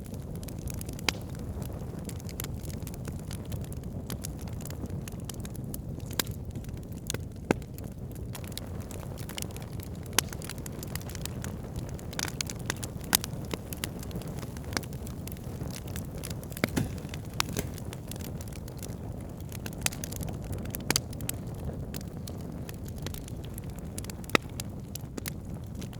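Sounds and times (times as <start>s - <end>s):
campfire crackling and popping: 0.0s - 25.9s
low rumble of fire: 0.0s - 25.9s.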